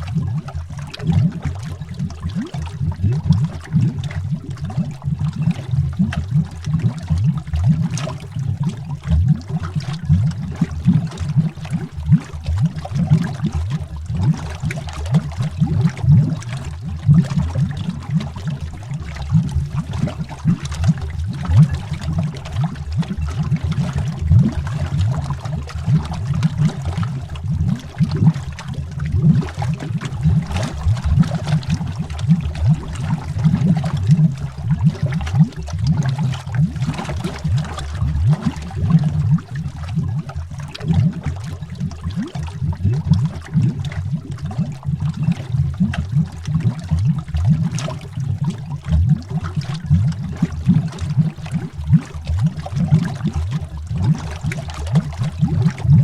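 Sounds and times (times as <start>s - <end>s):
underwater bubbling: 0.0s - 56.0s.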